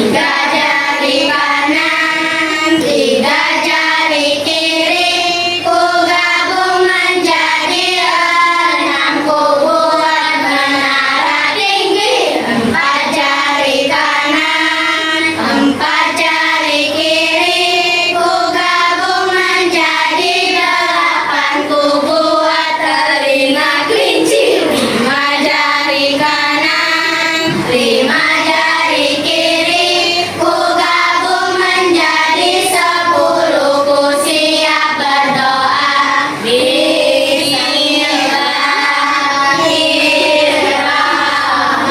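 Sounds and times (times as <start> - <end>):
children singing: 0.0 - 41.9.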